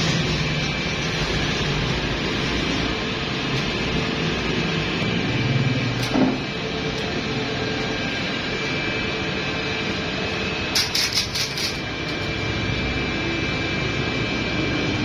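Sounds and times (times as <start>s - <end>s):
machinery drone: 0.0s - 15.0s.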